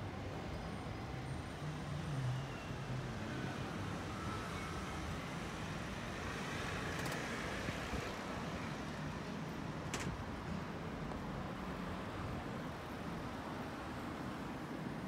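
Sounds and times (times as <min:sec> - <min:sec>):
city traffic: 0:00.0 - 0:15.0.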